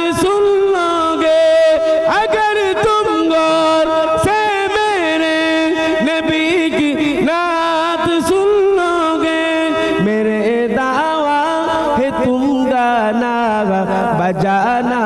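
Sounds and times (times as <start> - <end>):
man singing without instruments: 0.0 - 15.0.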